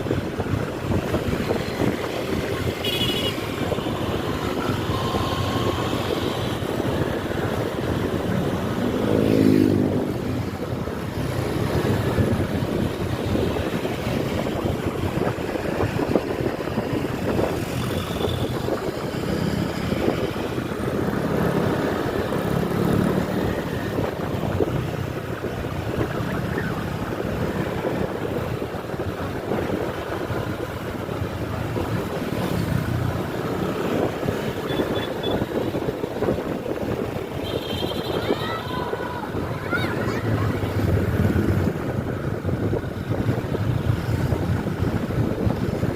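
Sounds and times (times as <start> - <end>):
wind buffeting microphone: 0.0 - 2.8, 3.4 - 45.9
engine and road rumble: 0.0 - 45.9.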